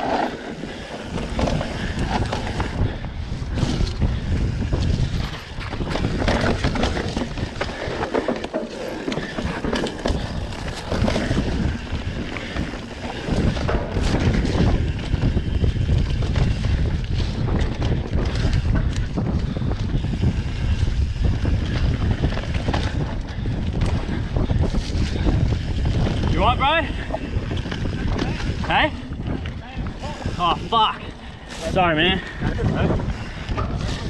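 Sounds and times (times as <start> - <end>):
dirt bike engine running: 0.0 - 30.5
wind buffeting microphone: 0.0 - 34.0.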